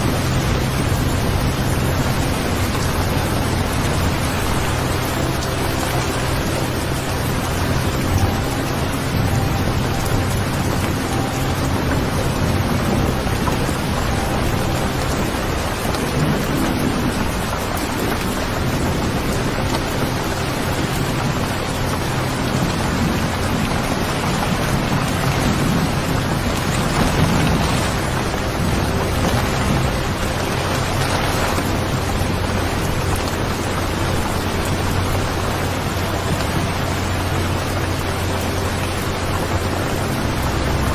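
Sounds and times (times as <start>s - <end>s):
distant thunder rumble: 0.0s - 40.9s
steady rain: 0.0s - 40.9s.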